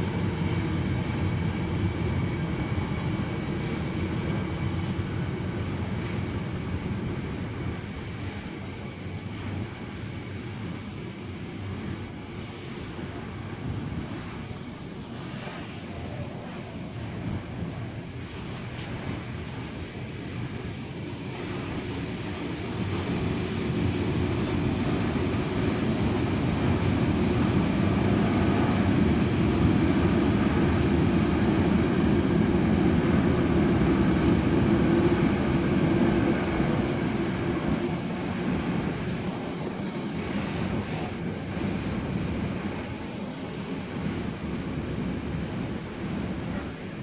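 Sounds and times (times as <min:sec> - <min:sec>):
freight train rolling past: 0:00.0 - 0:47.0.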